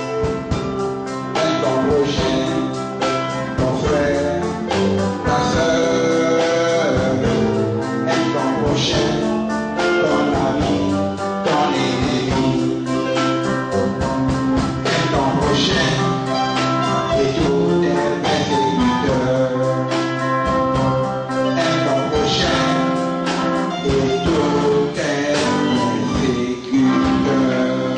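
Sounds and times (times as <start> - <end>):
gospel song with steady beat: 0.0 - 27.9
person singing: 0.0 - 27.9.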